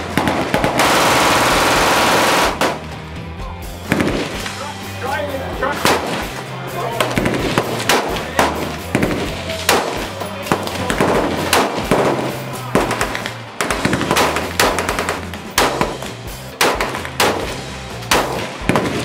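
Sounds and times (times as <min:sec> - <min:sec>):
gunshots: 0:00.0 - 0:02.9, 0:03.8 - 0:04.7, 0:05.7 - 0:19.0
background music: 0:00.0 - 0:19.0.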